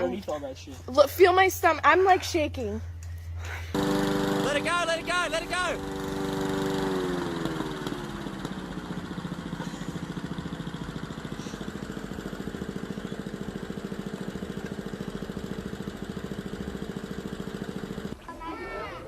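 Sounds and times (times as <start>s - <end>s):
small engine idling: 0.2s - 18.3s.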